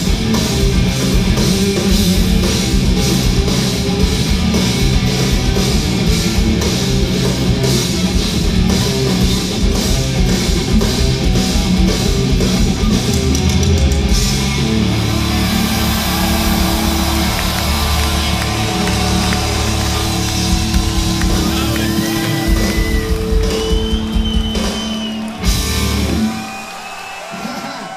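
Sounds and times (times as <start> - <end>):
rock band playing live: 0.0 - 26.9
crowd: 0.0 - 27.9.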